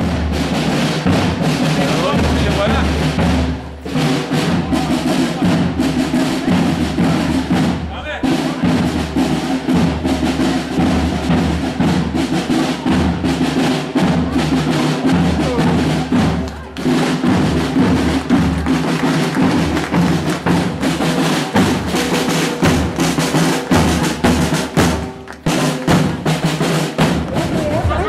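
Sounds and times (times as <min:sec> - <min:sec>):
bass drum: 0:00.0 - 0:28.0
snare drums: 0:00.0 - 0:28.0.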